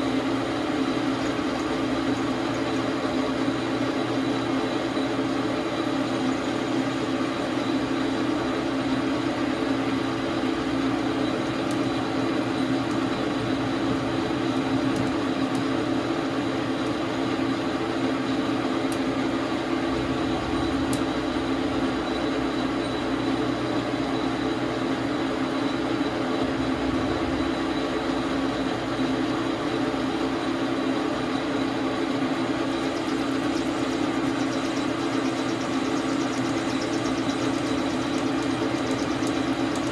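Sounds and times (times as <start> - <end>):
metal lathe humming: 6.2 - 39.9.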